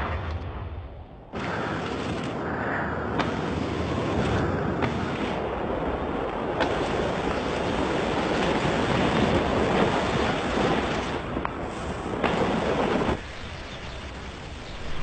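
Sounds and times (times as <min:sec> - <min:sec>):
wind roaring over microphone: 0:00.0 - 0:15.0.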